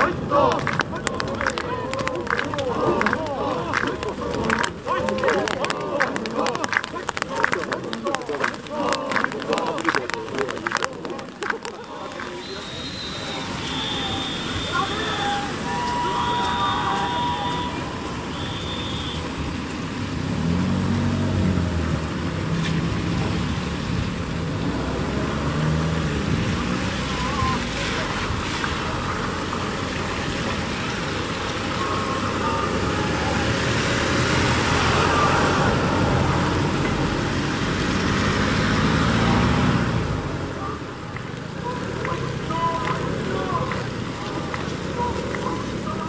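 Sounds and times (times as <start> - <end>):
men calling out: 0.0 - 19.7, 26.6 - 46.0
distant traffic rumble: 0.0 - 46.0.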